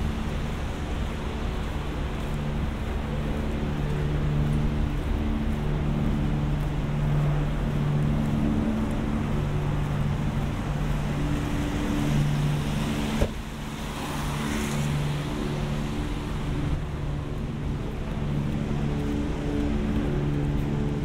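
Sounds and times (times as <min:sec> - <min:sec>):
engine hum: 0:00.0 - 0:21.0
tyres hissing on wet road: 0:00.0 - 0:21.0.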